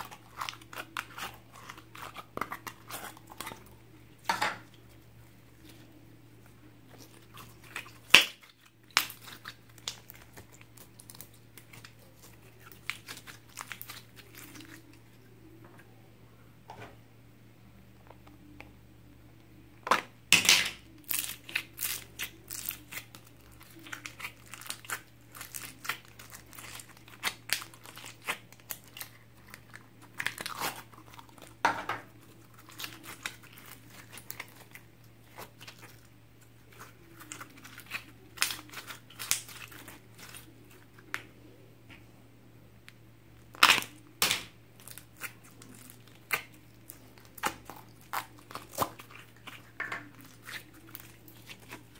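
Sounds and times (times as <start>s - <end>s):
faint low hum: 0.0s - 51.9s.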